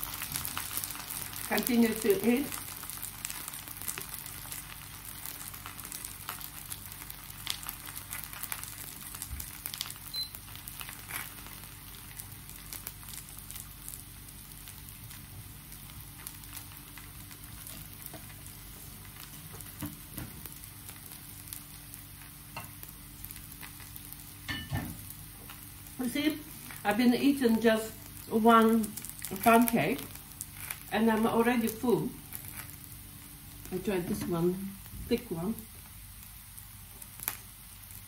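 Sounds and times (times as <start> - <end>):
faint crackles and pops: 0.0 - 38.0
pancake sizzling in oil: 0.0 - 38.0.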